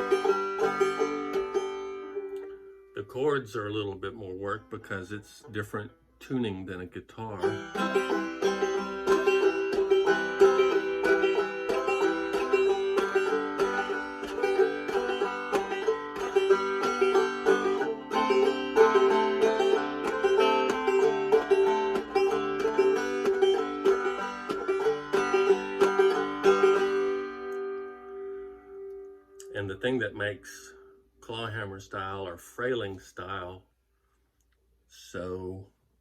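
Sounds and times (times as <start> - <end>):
banjo playing: 0.0 - 5.9, 7.2 - 32.3.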